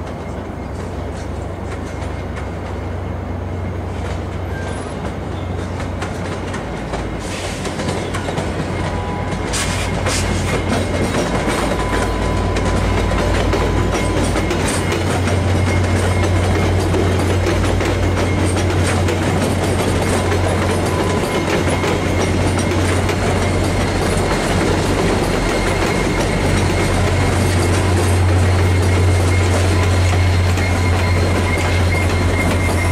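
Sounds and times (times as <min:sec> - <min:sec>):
diesel locomotive drone: 0:00.0 - 0:32.9
train cars clicking over rail joints: 0:03.8 - 0:32.9.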